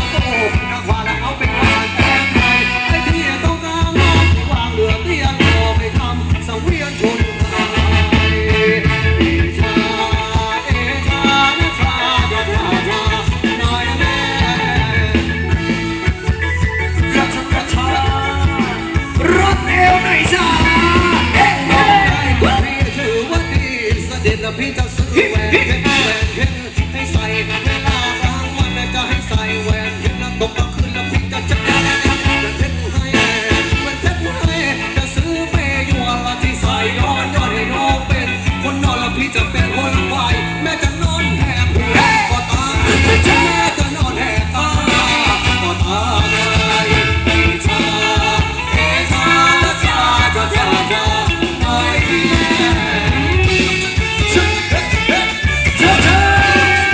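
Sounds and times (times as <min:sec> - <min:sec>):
person singing: 0:00.0 - 0:15.6, 0:16.9 - 0:56.9
live dance band playing: 0:00.0 - 0:56.9
steady drum beat: 0:00.0 - 0:56.9.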